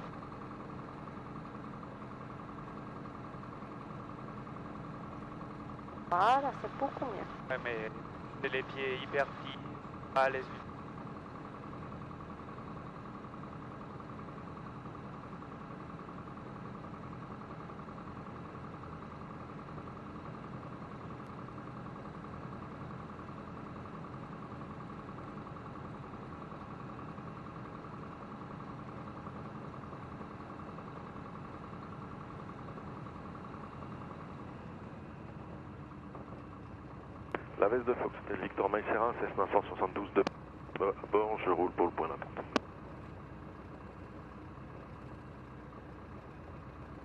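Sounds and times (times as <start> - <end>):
light aircraft engine running: 0.0 - 47.0.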